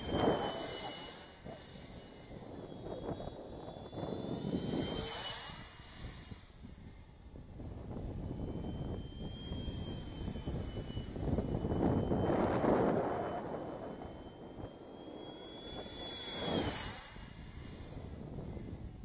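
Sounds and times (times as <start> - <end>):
rushing fan with high whistle: 0.0 - 19.0.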